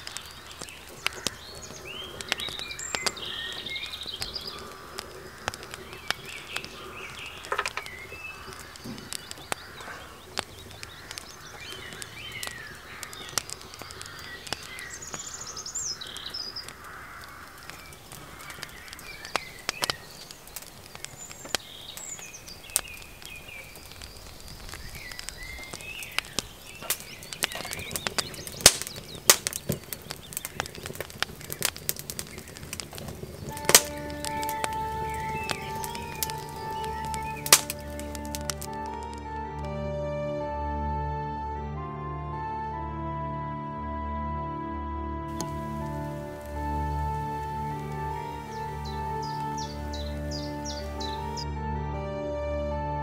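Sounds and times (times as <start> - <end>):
wood fire crackling and popping: 0.0 - 39.8, 45.3 - 51.5
songbirds chirping: 0.0 - 40.4, 45.3 - 51.7.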